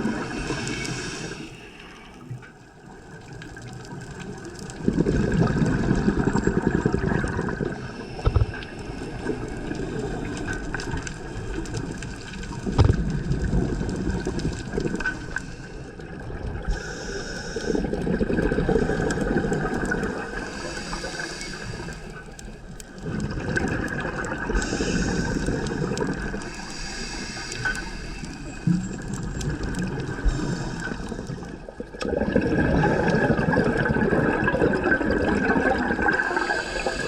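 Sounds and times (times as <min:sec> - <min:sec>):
underwater exhaled bubbles rushing: 0:00.0 - 0:37.0.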